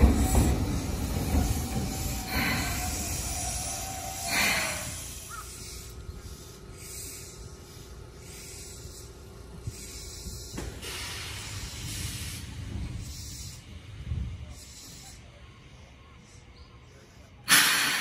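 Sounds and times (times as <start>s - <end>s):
air hissing: 0.0s - 16.5s, 17.3s - 18.0s
train humming: 0.0s - 18.0s
train rolling on track: 0.0s - 18.0s.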